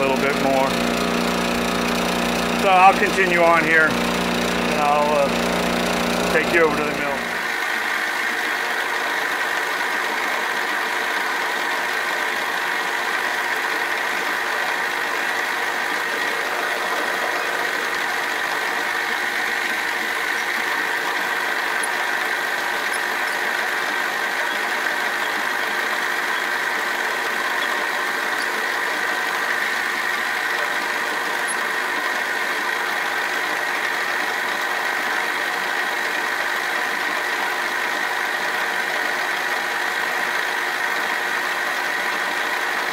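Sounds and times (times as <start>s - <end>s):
milling machine cutting metal: 0.0s - 42.8s.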